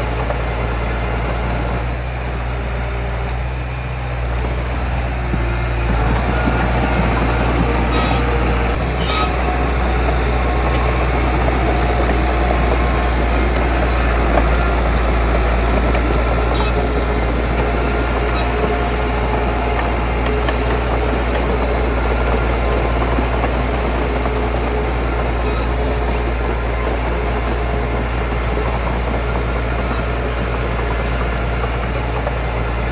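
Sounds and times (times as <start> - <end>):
diesel engine droning: 0.0 - 32.9.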